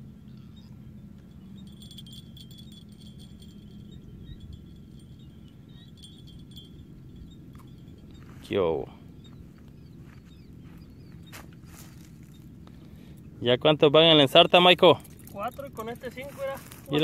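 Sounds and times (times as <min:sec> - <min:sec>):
low background hum: 0:00.0 - 0:17.0
light metallic jingling: 0:00.4 - 0:13.3, 0:13.9 - 0:17.0.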